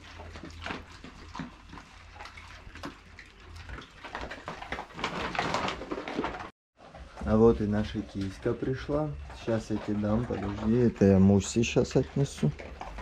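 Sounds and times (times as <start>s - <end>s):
dogs crunching dry kibble: 0.0s - 13.0s.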